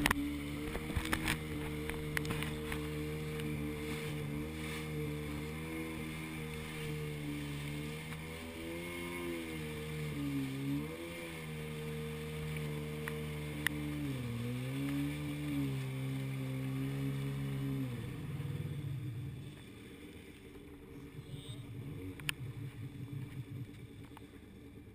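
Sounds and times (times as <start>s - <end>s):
jet ski engine running: 0.0s - 24.9s.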